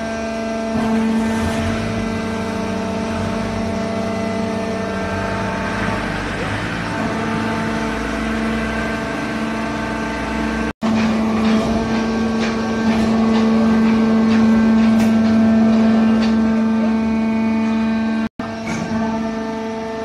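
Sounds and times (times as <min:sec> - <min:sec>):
baler motor hum: 0:00.0 - 0:20.0.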